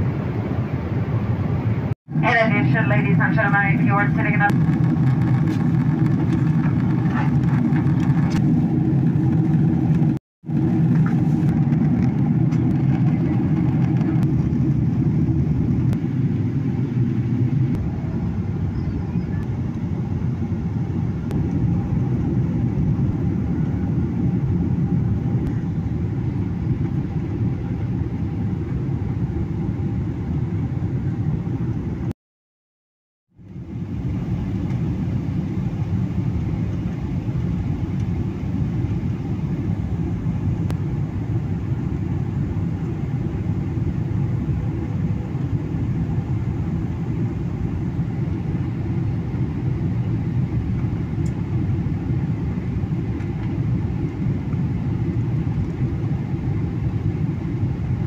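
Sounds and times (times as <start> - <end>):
airliner cabin rumble: 0.0 - 32.1, 33.4 - 58.0.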